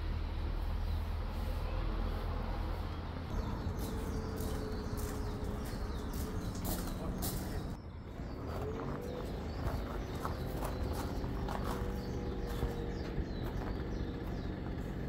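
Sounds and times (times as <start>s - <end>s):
birds calling: 0.7s - 15.0s.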